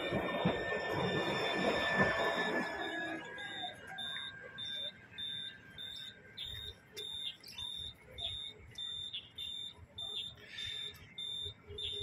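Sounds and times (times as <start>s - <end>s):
faint tram motor whine: 0.0s - 12.0s
high-pitched crossing beeper: 0.0s - 12.0s.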